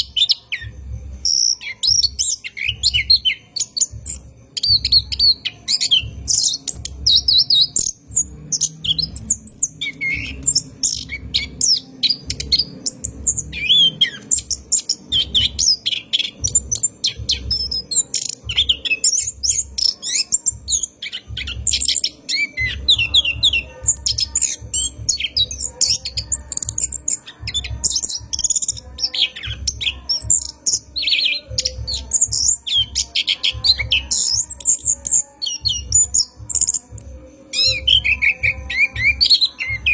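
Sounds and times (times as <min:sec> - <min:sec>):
thrush singing chirps and trills: 0:00.0 - 0:39.9.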